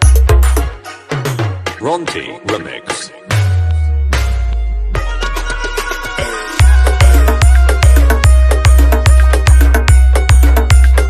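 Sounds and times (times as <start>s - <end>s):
dance music with booming bass: 0.0s - 1.8s, 3.3s - 11.0s.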